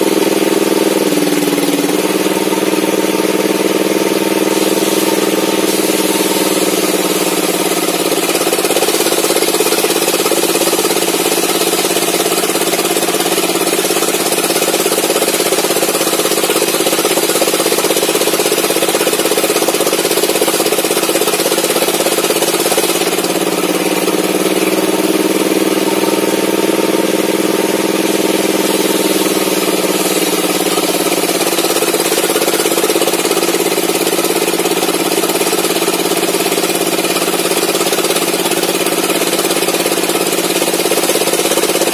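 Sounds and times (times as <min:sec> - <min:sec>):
table saw ripping a board: 0:02.0 - 0:41.9.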